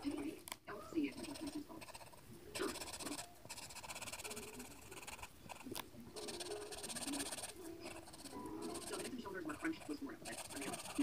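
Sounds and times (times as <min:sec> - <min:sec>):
pencil shading on paper: 0:01.0 - 0:11.0.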